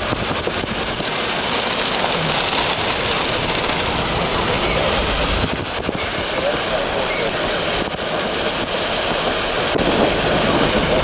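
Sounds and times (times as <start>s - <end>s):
heavy rain on a vehicle: 0.0s - 11.0s.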